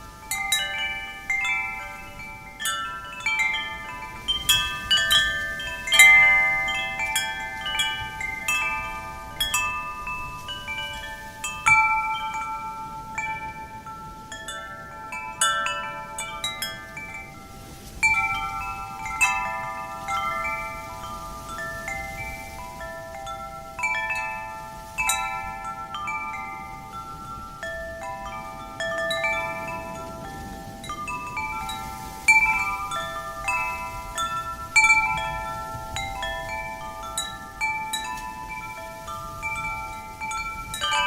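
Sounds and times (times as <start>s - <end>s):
faint wind hiss: 0.0s - 41.0s
metal wind chimes ringing: 0.0s - 41.0s.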